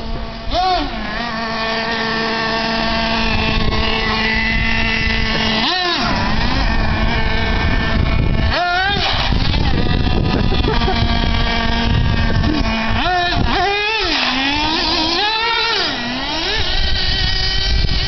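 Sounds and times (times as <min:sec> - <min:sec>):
toy truck engine revving: 0:00.0 - 0:18.0.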